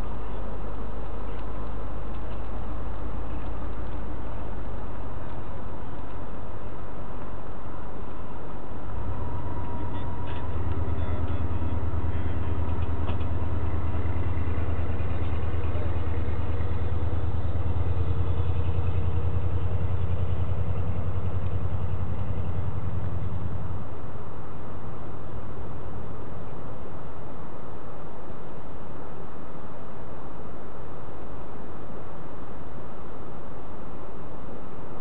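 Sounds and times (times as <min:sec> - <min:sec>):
boat engine rumbling: 0:00.0 - 0:35.0.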